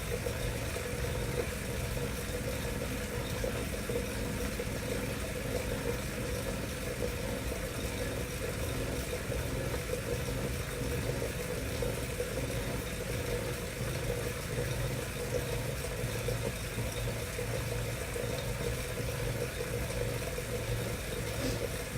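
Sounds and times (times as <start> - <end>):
bike trainer humming: 0.0 - 21.9.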